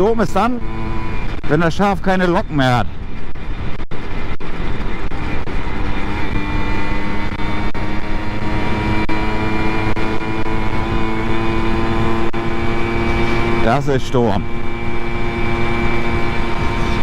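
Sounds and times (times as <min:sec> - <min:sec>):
wind rumble on microphone: 0:00.0 - 0:13.7, 0:14.4 - 0:17.0
moped engine running: 0:00.0 - 0:17.0.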